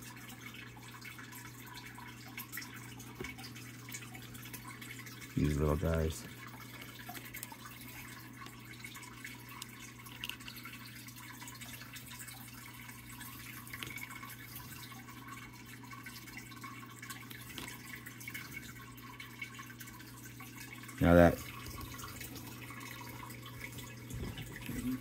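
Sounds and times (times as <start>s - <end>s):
water dripping and trickling: 0.0s - 25.0s.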